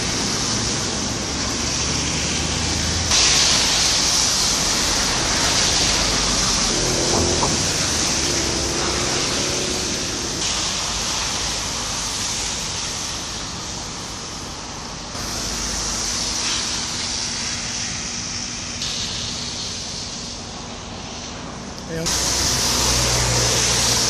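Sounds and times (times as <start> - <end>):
rushing outdoor background noise: 0.0 - 24.0.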